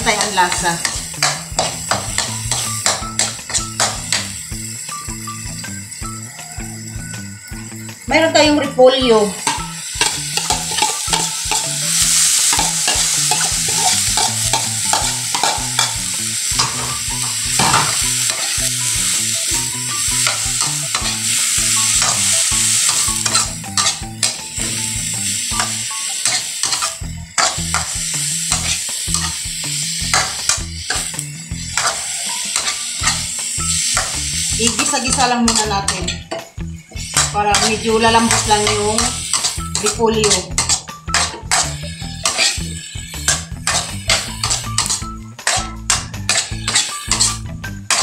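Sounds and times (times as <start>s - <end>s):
spatula scraping a wok: 0.0s - 4.4s, 8.2s - 48.0s
cabbage sizzling in oil: 0.0s - 48.0s.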